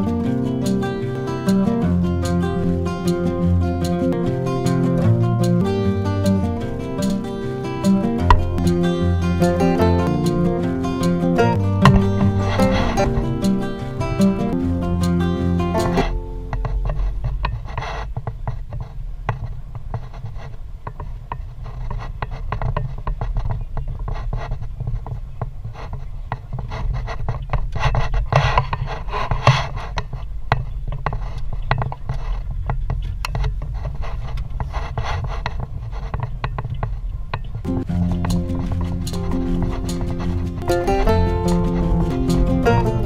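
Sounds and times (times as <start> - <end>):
engine and road rumble: 0.0 - 43.0.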